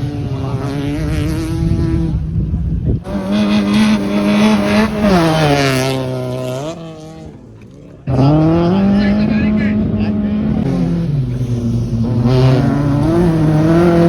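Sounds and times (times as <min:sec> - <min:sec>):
rally car engines revving: 0:00.0 - 0:14.0
second car revving hard: 0:00.0 - 0:14.0.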